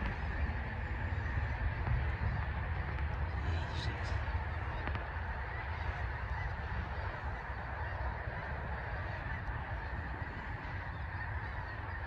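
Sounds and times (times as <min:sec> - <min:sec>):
flock of geese honking: 0:00.0 - 0:12.0
wind rumbling on microphone: 0:00.0 - 0:12.0.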